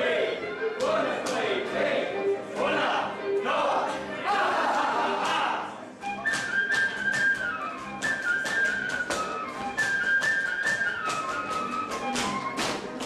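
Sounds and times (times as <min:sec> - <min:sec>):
folk dance music with piping melody: 0:00.0 - 0:04.6, 0:05.5 - 0:13.0.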